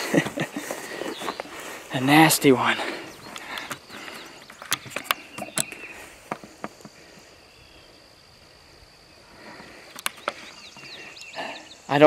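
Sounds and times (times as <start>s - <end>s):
rustling in tall grass: 0.0s - 11.1s
insects humming: 0.0s - 12.0s.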